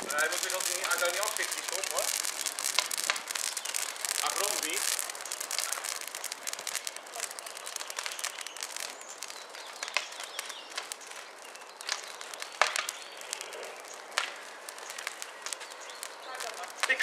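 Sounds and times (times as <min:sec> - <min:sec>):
fire crackling and popping: 0:00.0 - 0:17.0
loud fire snap: 0:00.0 - 0:17.0.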